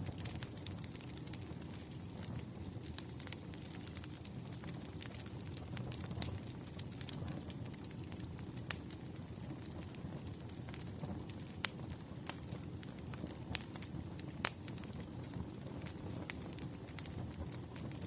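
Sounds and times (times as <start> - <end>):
low rush of flames: 0.0 - 18.0
wood fire crackling and popping: 0.0 - 18.0.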